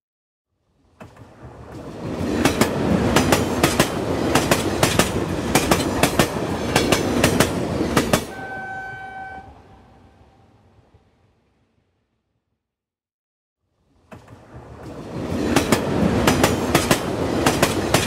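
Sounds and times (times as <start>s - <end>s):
train rumbling past: 0.8s - 12.0s, 13.9s - 18.0s.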